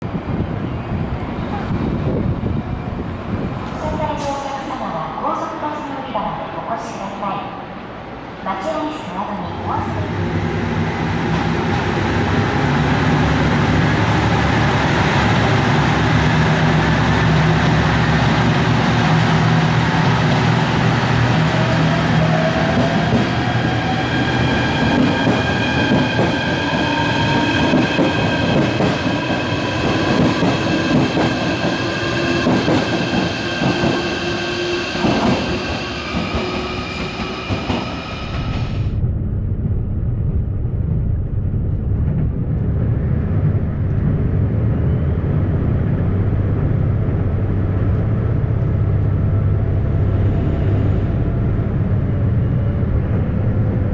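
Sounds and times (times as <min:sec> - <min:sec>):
train whine: 0:06.9 - 0:53.9
train running: 0:08.9 - 0:53.9.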